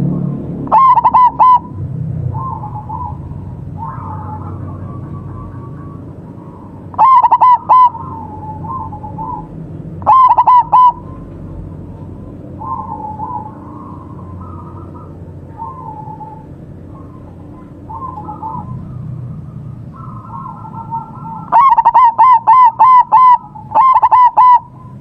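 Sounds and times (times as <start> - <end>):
loud rapid dove coos: 0.6 - 25.0
softer dove cooing: 0.7 - 25.0.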